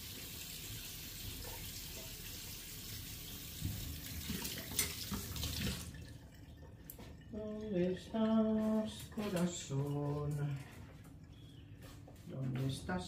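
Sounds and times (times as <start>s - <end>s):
water running from a tap: 0.0s - 10.6s.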